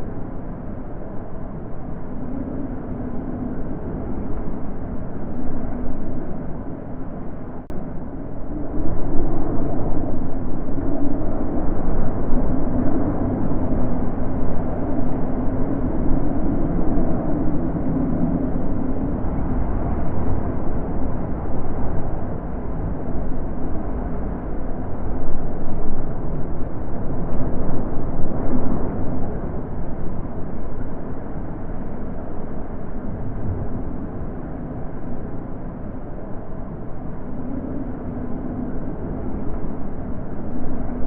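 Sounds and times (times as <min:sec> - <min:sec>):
wind blowing in gusts: 0:00.0 - 0:41.0.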